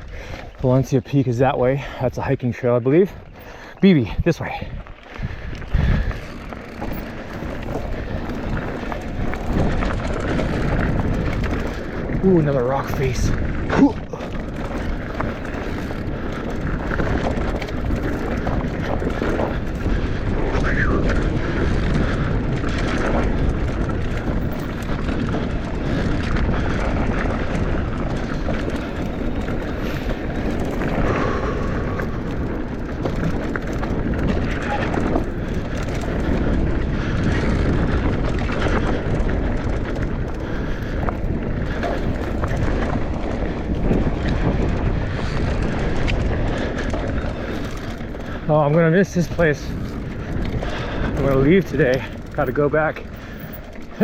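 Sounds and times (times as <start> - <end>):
bike rattling: 0.0 - 54.0
tyres rolling over dirt: 0.0 - 54.0
wind on microphone: 3.2 - 54.0.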